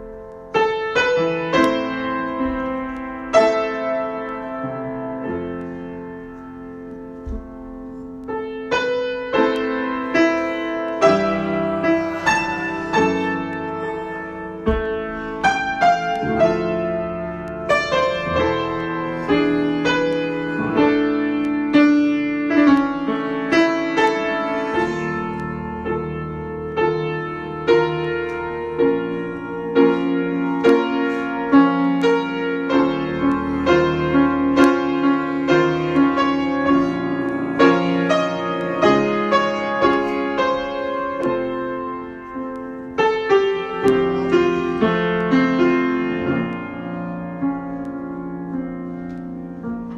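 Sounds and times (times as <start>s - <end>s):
solo piano: 0.0s - 49.9s.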